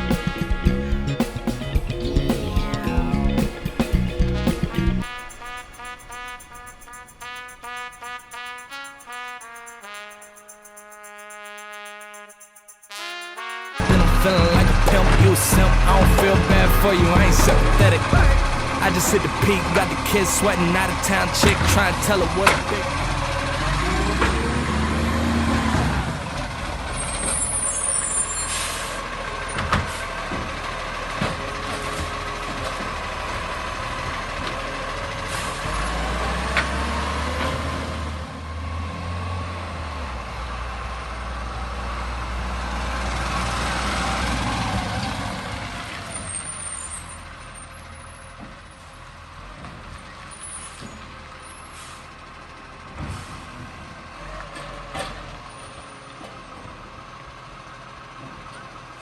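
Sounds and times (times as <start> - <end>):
garbage truck diesel engine: 0.0 - 5.5, 13.8 - 59.0.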